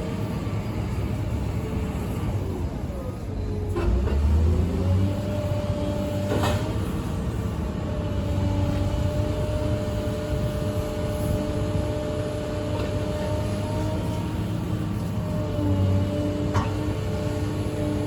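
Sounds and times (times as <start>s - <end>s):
excavator diesel engine humming: 0.0s - 18.0s.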